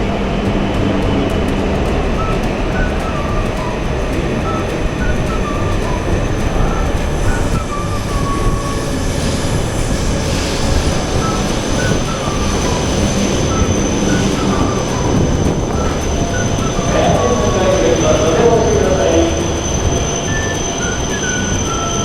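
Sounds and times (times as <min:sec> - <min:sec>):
train rumble and rail noise: 0:00.0 - 0:22.0
repeating high tones: 0:01.6 - 0:22.0.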